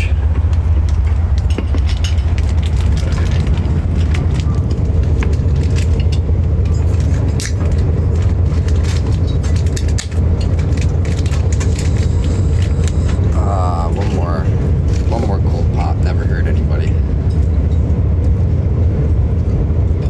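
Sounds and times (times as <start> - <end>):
train clicks and rattles: 0.0 - 20.0
train rumbling: 0.0 - 20.0.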